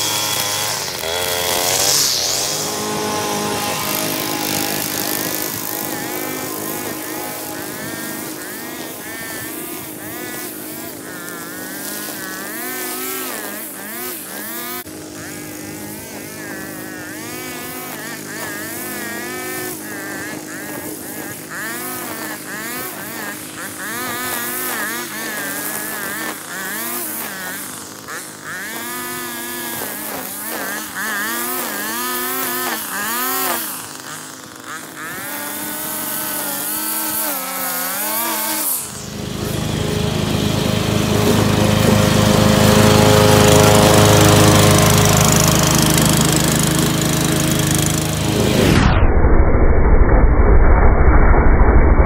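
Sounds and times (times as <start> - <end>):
string trimmer engine revving: 0.0 - 48.9
riding mower engine running: 0.0 - 49.0.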